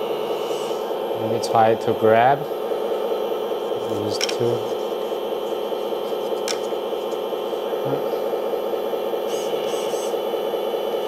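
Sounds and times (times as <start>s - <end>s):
electric hydraulic pump humming: 0.0s - 11.0s.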